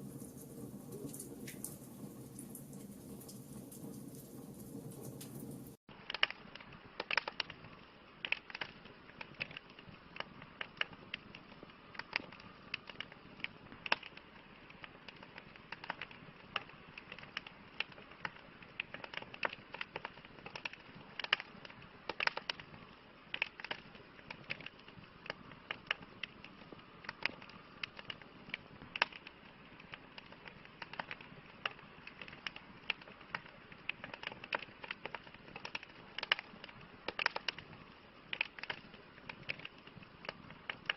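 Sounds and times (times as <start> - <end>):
soft hiss of fire: 0.0 - 40.9
wood fire crackling: 0.0 - 40.9.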